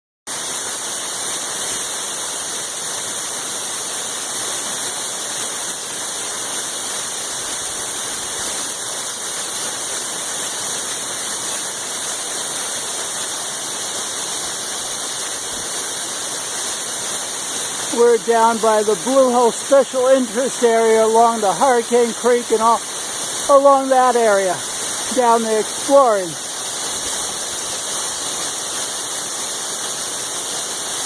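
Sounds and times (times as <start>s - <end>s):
small waterfall splashing: 0.3s - 31.0s.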